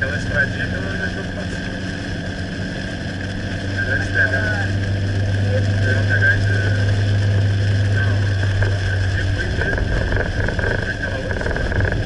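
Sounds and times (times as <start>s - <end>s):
car engine and road hum: 0.0s - 12.0s
rain hissing: 0.0s - 12.0s.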